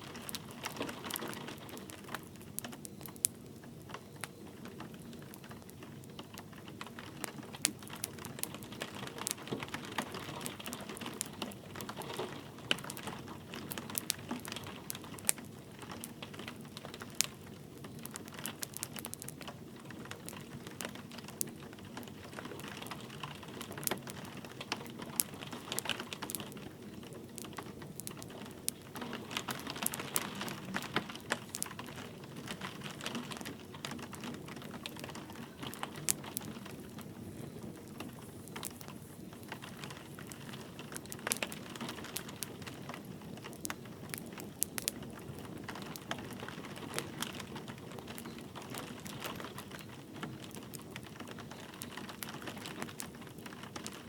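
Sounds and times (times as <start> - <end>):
light rain hissing: 0.0 - 54.0
wood fire crackling: 0.0 - 54.0.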